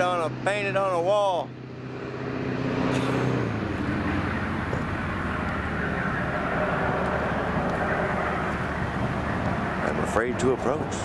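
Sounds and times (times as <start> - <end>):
passing road traffic: 0.0 - 11.0
vehicle engine hum: 0.0 - 11.0.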